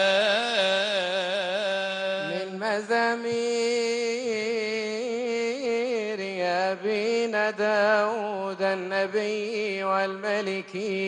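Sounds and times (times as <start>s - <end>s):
man chanting through microphone: 0.0s - 11.0s.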